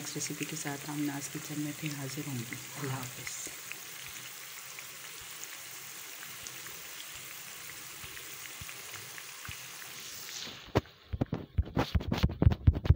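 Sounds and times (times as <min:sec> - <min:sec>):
oil sizzling in a pan: 0:00.0 - 0:11.1.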